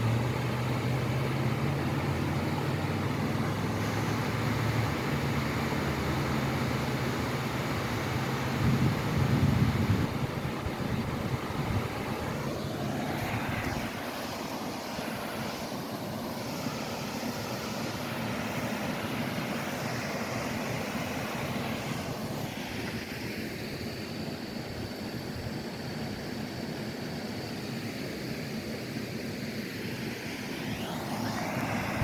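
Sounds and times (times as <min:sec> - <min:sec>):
waterfall rushing: 0:00.0 - 0:09.2, 0:09.8 - 0:25.3, 0:29.8 - 0:32.0.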